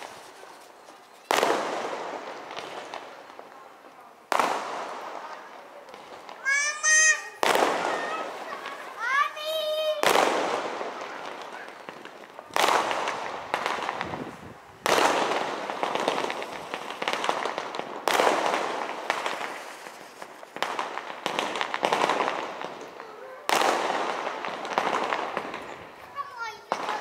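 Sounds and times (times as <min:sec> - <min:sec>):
crackling firework stars: 0:00.0 - 0:27.0
firework shells bursting: 0:04.3 - 0:27.0.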